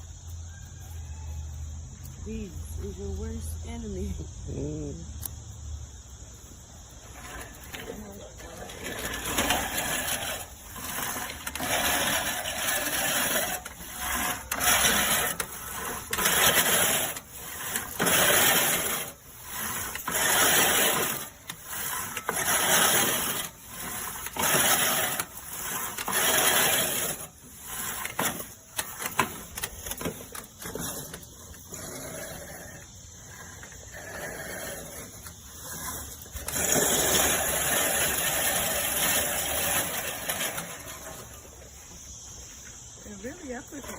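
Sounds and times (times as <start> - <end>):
reel mower blades whirring: 0.0 - 43.9.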